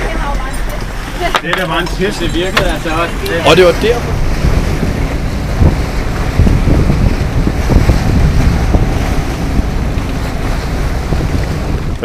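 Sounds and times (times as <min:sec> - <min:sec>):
wake water splashing: 0:00.0 - 0:12.0
wind buffeting microphone: 0:00.0 - 0:12.0.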